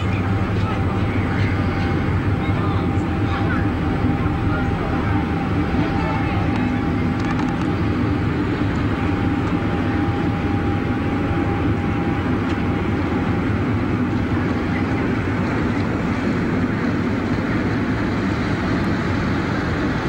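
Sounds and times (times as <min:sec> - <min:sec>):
ferry diesel engines droning: 0:00.0 - 0:20.0.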